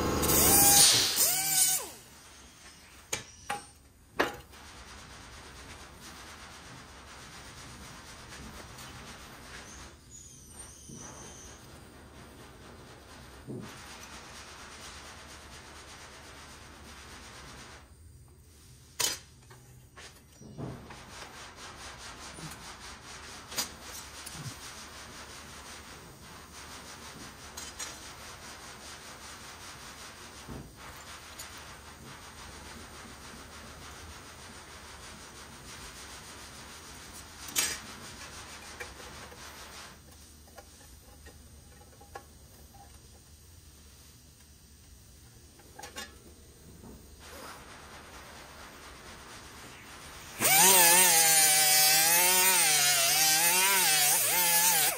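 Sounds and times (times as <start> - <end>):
hands rubbing tape on metal: 0.3 - 17.9, 20.0 - 43.0, 45.5 - 54.9.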